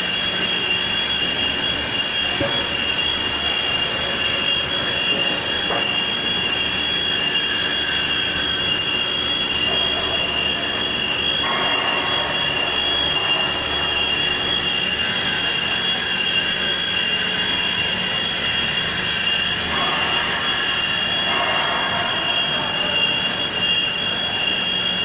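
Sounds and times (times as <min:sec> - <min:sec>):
hydraulic power unit whine: 0:00.0 - 0:25.0.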